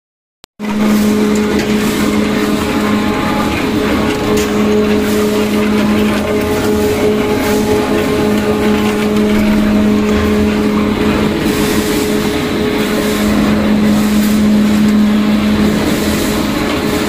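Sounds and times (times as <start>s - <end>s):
constant rushing noise: 0.6s - 17.0s
machine mechanical hum: 0.6s - 17.0s.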